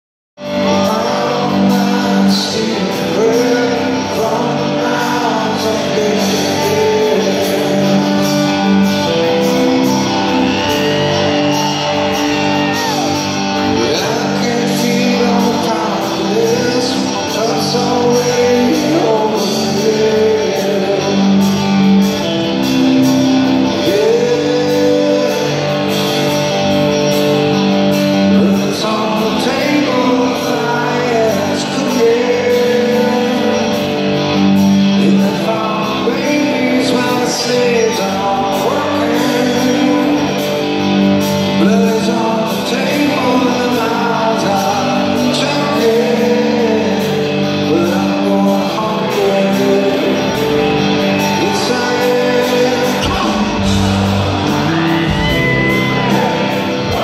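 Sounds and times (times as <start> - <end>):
live rock band playing: 0.4 - 57.0
man singing lead vocal: 0.4 - 57.0.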